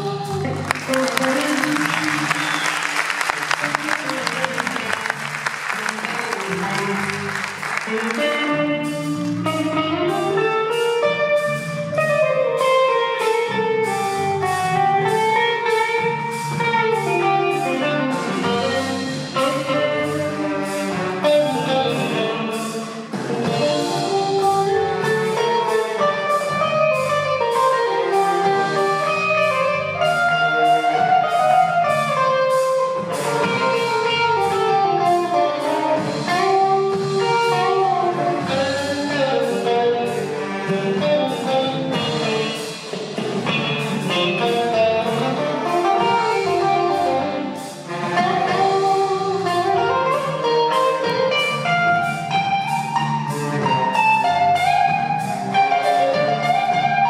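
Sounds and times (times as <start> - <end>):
drum kit beat: 0.0 - 57.0
electric guitar: 0.0 - 57.0
saxophone ensemble: 0.0 - 57.0.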